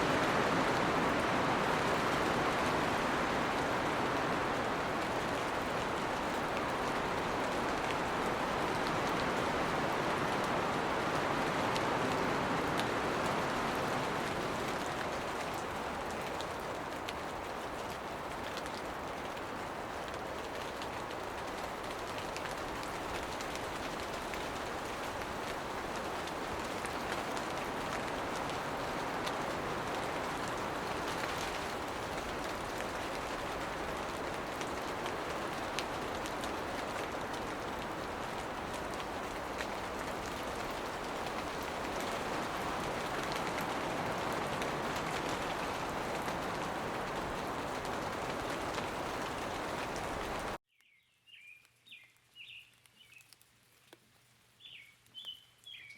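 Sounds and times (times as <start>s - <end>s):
rain falling on foliage: 0.0s - 55.9s.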